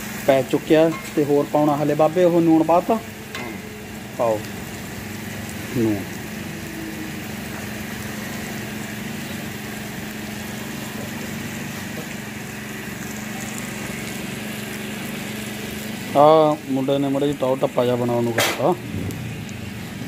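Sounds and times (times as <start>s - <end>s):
chicken frying sizzle: 0.0s - 20.0s
low mechanical hum: 0.0s - 20.0s.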